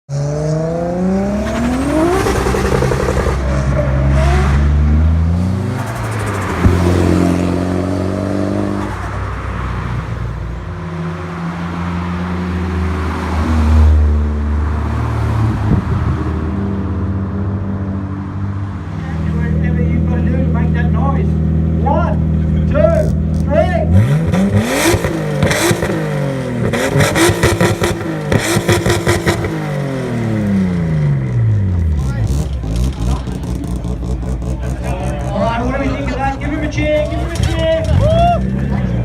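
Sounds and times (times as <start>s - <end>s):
car engine revving: 0.1s - 39.0s.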